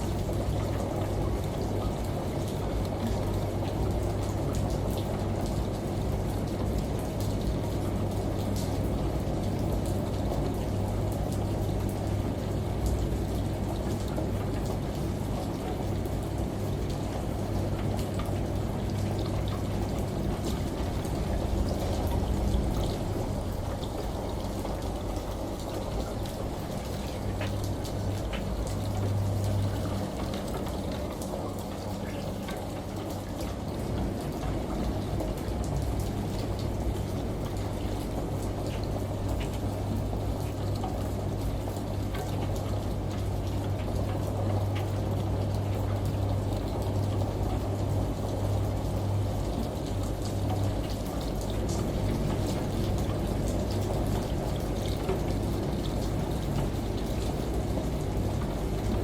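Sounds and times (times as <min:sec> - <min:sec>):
rain: 0:00.0 - 0:59.0
running water: 0:00.0 - 0:59.0
washing machine humming: 0:00.0 - 0:59.0
water dripping: 0:00.0 - 0:59.0.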